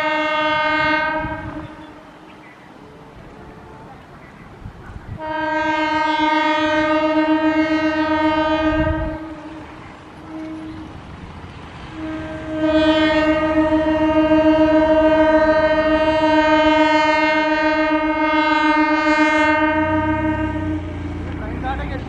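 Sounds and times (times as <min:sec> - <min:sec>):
electric train horn: 0:00.0 - 0:04.2, 0:05.1 - 0:21.6.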